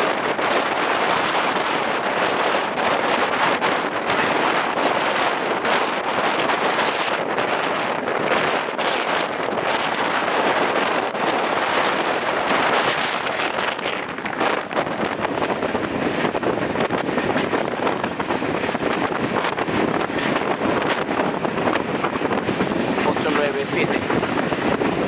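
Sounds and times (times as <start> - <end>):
train running noise: 0.0 - 25.0
wind rush on microphone: 0.0 - 25.0.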